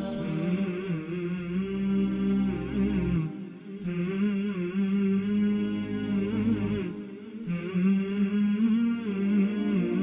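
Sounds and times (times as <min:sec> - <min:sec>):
chant-like singing voice: 0:00.0 - 0:10.0.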